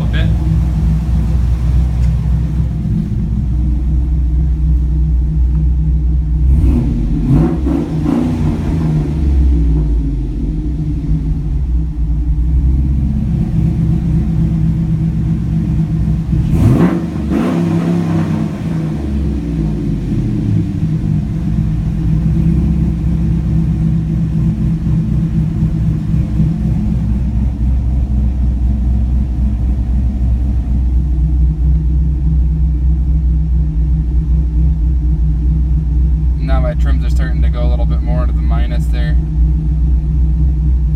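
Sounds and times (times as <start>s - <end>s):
engine idling and revving: 0.0s - 40.9s.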